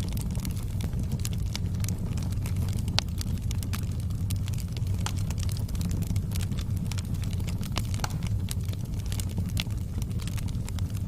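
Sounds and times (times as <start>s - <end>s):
low rumble of burning wood: 0.0s - 11.0s
sharp pops of campfire: 0.0s - 11.0s.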